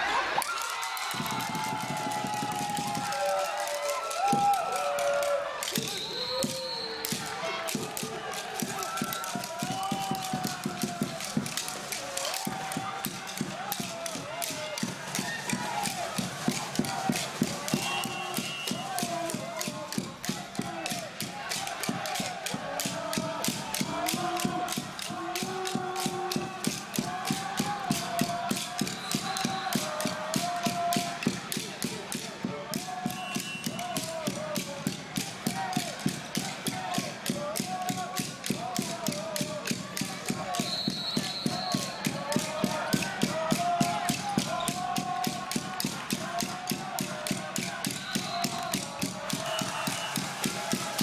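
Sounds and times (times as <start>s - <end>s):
crowd chanting: 0.0s - 51.0s
noisemakers clacking rhythmically: 0.0s - 51.0s
fast steady drumming: 0.7s - 51.0s.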